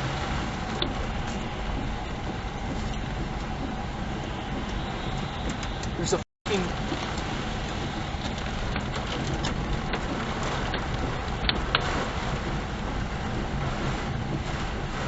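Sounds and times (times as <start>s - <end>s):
storm rushing around car: 0.0s - 15.0s.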